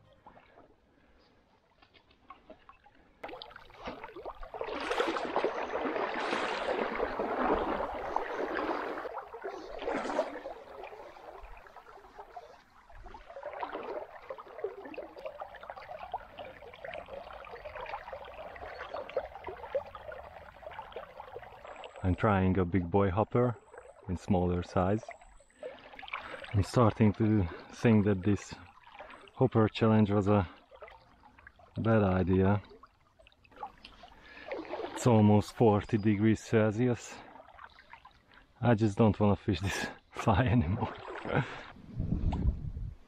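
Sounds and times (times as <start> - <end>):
river water splashing and gurgling: 0.0 - 42.8.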